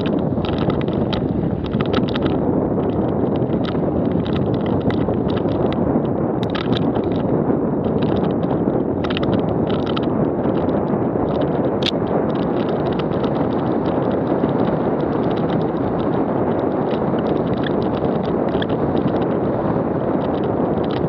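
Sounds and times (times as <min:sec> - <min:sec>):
gravel rattling clicks: 0:00.0 - 0:21.0
tyres rumbling over rocky trail: 0:00.0 - 0:21.0
wind rushing over microphone: 0:00.0 - 0:21.0.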